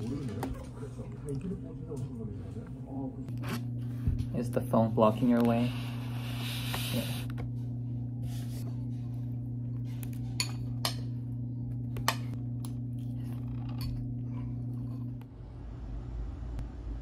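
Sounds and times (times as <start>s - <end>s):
low appliance hum: 0.0s - 17.0s.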